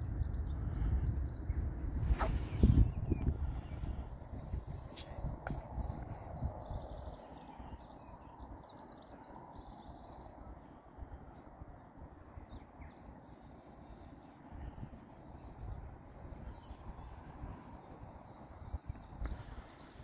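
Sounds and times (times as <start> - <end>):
songbirds chirping: 0.0 - 20.0
wind buffeting microphone: 0.0 - 20.0.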